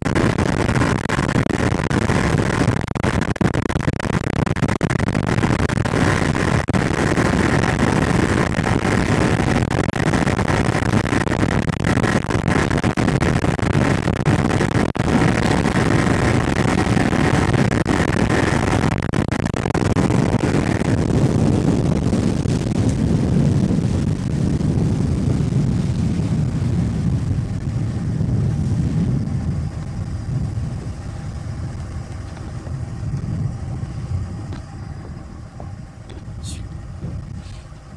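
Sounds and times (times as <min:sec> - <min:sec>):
outboard motor running: 0:00.0 - 0:37.9
wind: 0:00.0 - 0:37.9.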